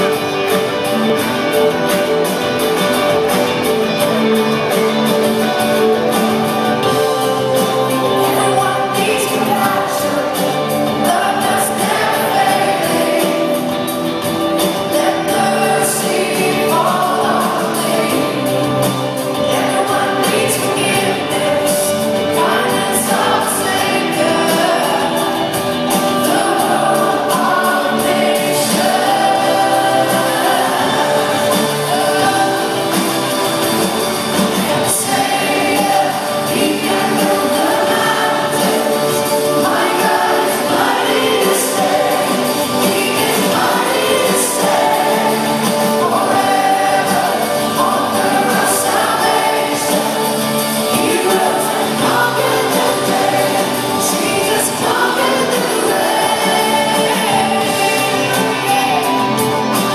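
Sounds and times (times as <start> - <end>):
live band playing: 0.0 - 59.9
voices singing together: 0.0 - 59.9.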